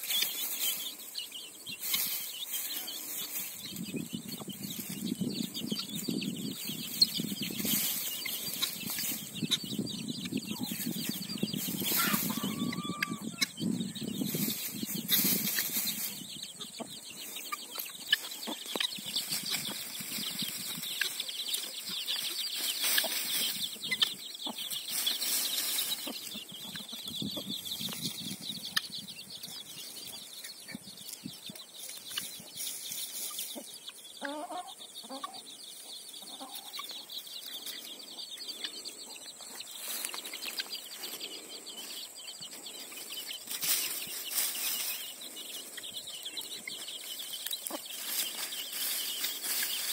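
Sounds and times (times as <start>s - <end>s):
chicks peeping: 0.0s - 49.9s
hen clucking: 1.8s - 30.9s, 31.5s - 49.9s.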